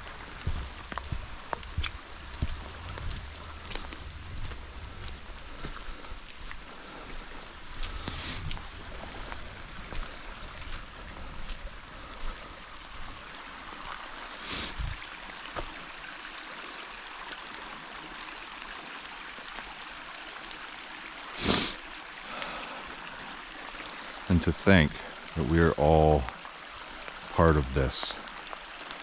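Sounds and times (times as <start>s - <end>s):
creek running: 0.0s - 29.0s
rain drips ticking: 0.0s - 29.0s.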